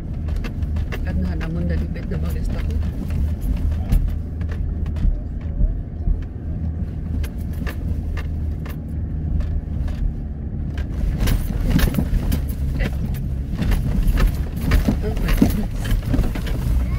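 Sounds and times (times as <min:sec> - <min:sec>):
vehicle engine rumbling: 0:00.0 - 0:16.9
vehicle rattling over sand: 0:00.0 - 0:16.9.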